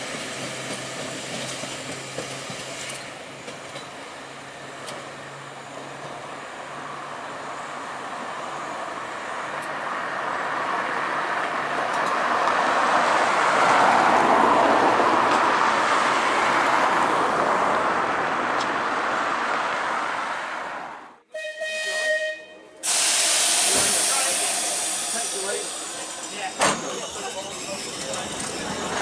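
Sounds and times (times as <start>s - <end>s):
steel wheels rumbling on rail: 0.0s - 19.0s, 21.3s - 29.0s
electric tram running on track: 0.0s - 29.0s.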